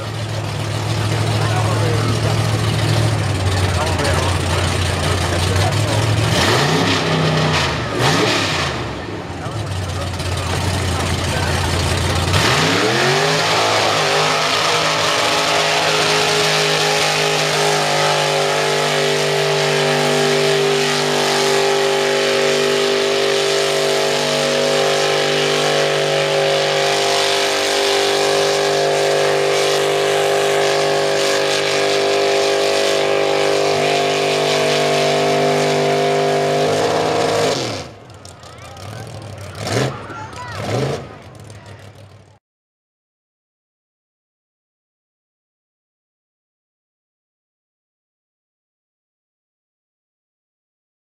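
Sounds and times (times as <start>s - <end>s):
truck engine revving: 0.0s - 42.4s
tyres churning in mud: 0.0s - 42.4s.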